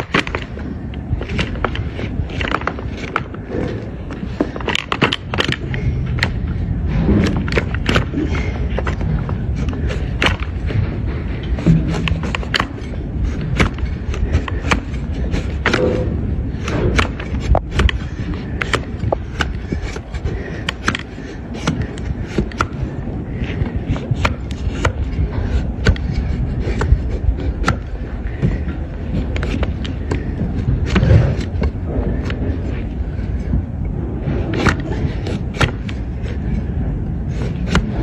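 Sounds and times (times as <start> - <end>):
cutting and knocking on hoof: 0.0 - 38.0
steady low rumble: 0.0 - 38.0.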